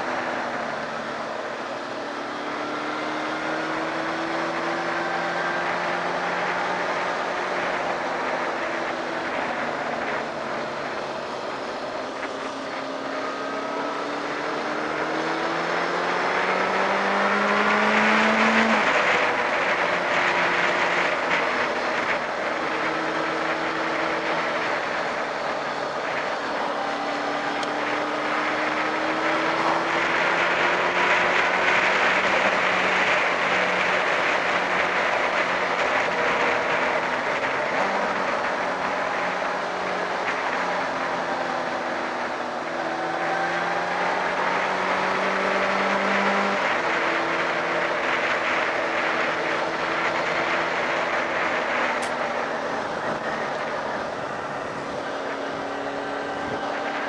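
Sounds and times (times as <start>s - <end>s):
motorcycle engine revving: 1.8s - 57.0s.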